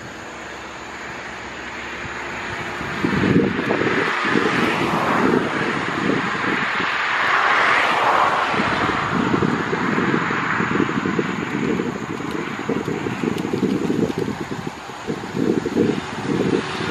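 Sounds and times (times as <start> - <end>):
turboprop engines running: 0.0 - 7.3, 8.4 - 16.9
engine hiss: 0.0 - 16.9
propellers whirring: 0.0 - 16.9.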